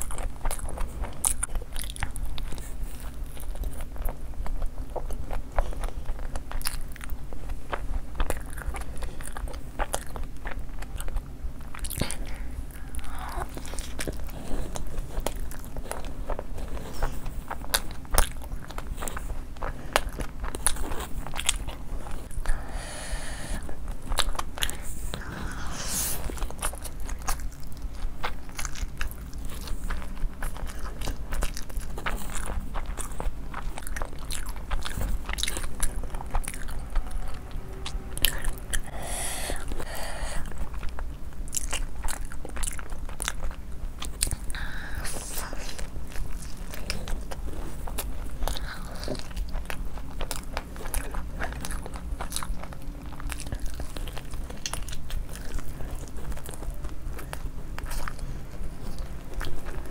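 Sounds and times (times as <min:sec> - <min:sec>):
crunching fried chicken: 0:00.0 - 0:59.9.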